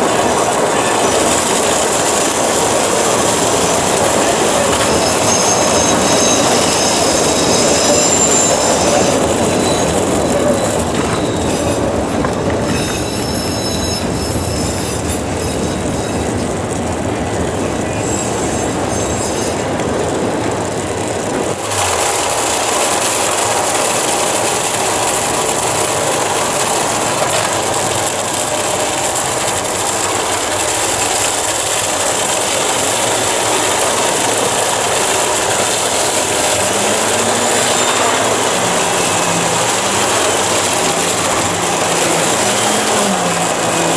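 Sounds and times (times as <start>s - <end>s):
train rushing noise: 0.0s - 43.9s
train wheels squealing on rails: 0.0s - 43.9s.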